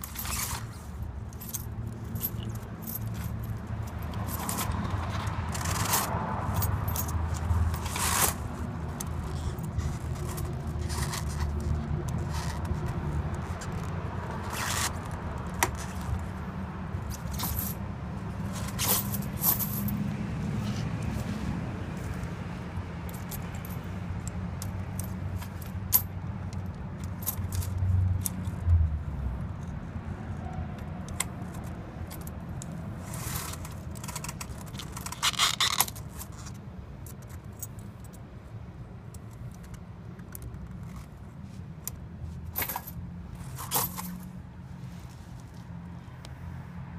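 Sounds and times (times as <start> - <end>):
tire chain clinking and jingling: 0.0 - 20.1, 23.0 - 28.6, 31.1 - 38.5, 39.2 - 44.3.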